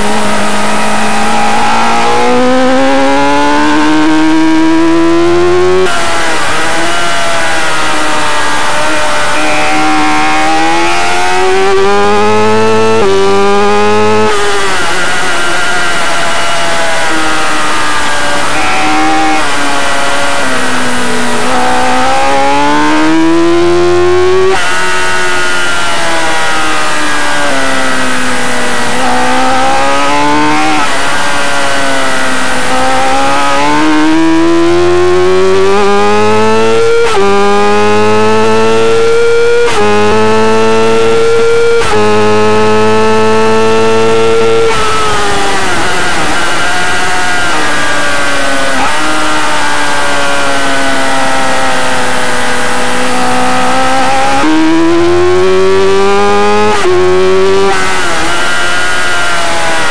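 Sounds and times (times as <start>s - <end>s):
racing motorcycle engine: 0.0s - 59.9s.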